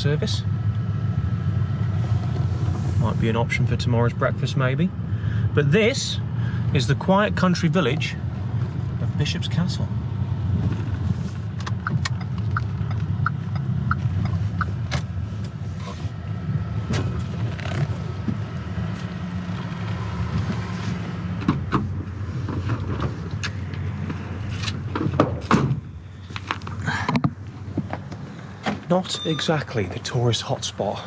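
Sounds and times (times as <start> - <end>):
engine and tyre rumble: 0.0 - 31.0.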